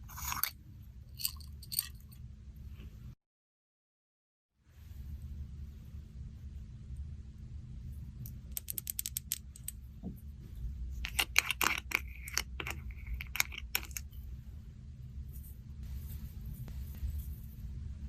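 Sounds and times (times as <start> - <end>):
low steady hum: 0.0 - 3.2, 4.6 - 18.0.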